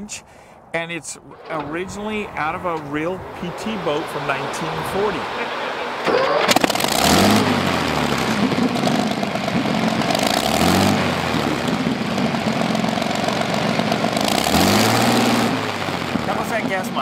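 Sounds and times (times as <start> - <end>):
boat engine idling: 1.5 - 16.8.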